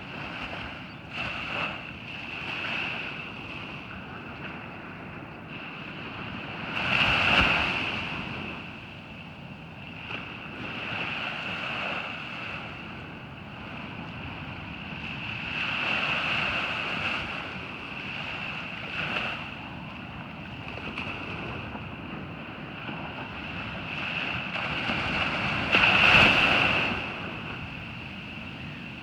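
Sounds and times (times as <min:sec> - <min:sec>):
ocean surf breaking on beach: 0:00.0 - 0:29.0
wind buffeting microphone: 0:00.0 - 0:29.0.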